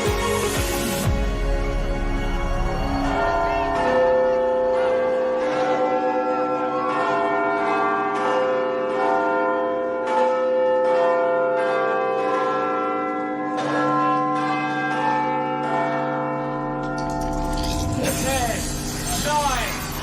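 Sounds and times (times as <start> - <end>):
large tower bells ringing: 0.0 - 20.0.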